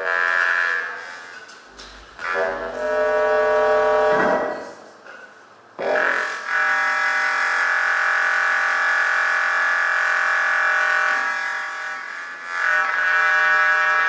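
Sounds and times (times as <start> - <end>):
buzzing synthesizer drone: 0.0 - 4.9, 5.8 - 14.0.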